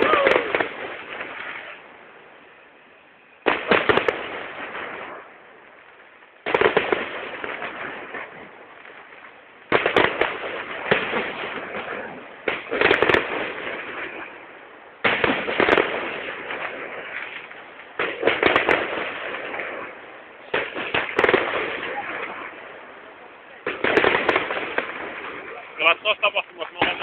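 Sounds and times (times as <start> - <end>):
firework bangs: 0.0 - 2.6, 3.2 - 27.0
firework crackling: 0.0 - 27.0.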